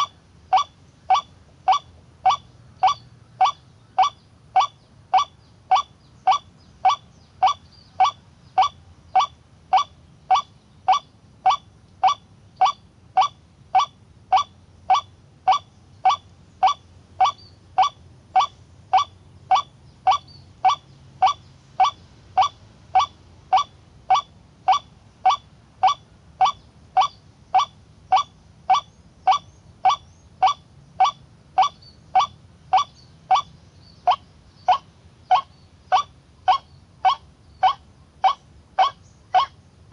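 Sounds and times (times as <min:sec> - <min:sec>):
waterhen honking call: 0:00.0 - 0:39.6.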